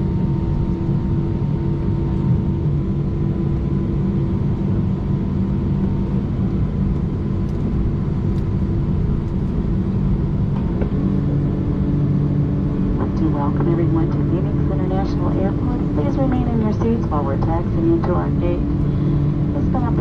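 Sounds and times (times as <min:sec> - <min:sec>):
aircraft cabin rumble: 0:00.0 - 0:20.0
low engine hum: 0:00.0 - 0:20.0.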